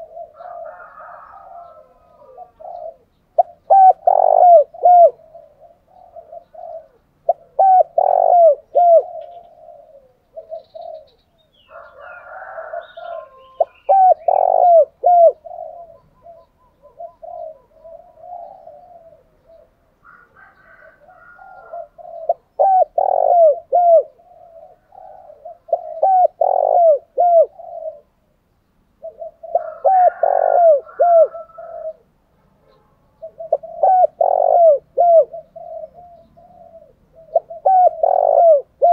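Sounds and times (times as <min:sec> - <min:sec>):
doves cooing: 0:00.0 - 0:28.3, 0:29.0 - 0:38.9.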